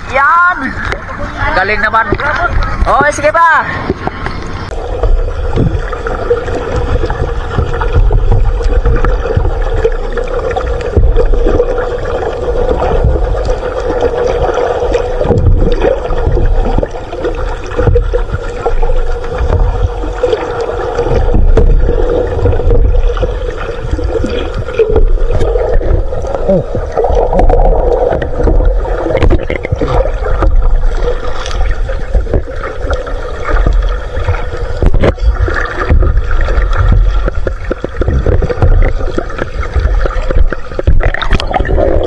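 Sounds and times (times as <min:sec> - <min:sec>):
steady hum: 0:00.0 - 0:42.0
underwater water movement: 0:00.0 - 0:42.0.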